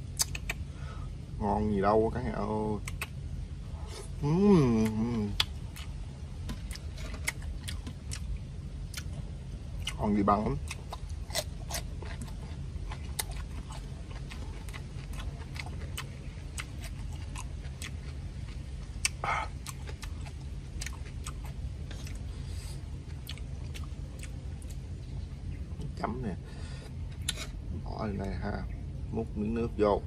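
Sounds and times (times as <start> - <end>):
low rumble: 0.0 - 30.0
crunchy chewing: 0.1 - 0.7, 2.4 - 25.0, 26.8 - 28.3.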